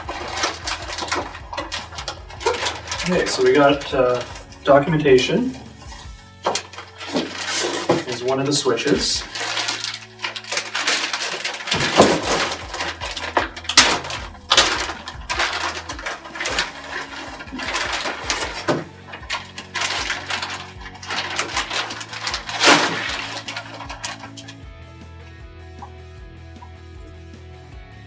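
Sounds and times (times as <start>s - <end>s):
plastic bag crinkling: 0.0s - 24.6s
background music: 0.0s - 28.0s.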